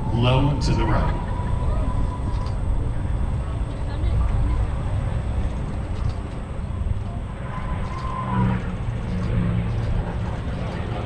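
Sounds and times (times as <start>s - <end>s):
propeller plane engine rumble: 0.0s - 11.0s.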